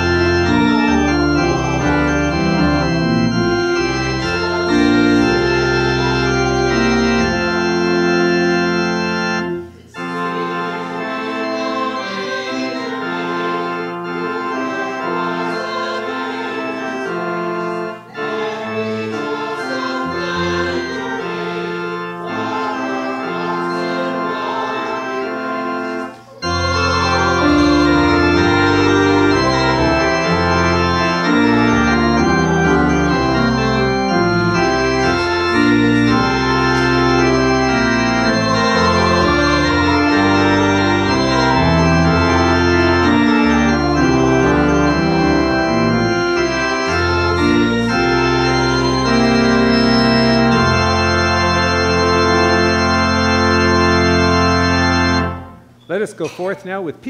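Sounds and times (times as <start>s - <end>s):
organ playing chords: 0.0s - 57.0s.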